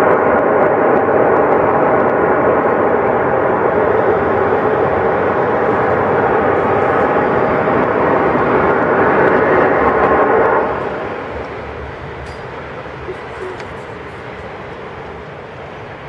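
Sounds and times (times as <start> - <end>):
loud droning hum: 0.0 - 16.0.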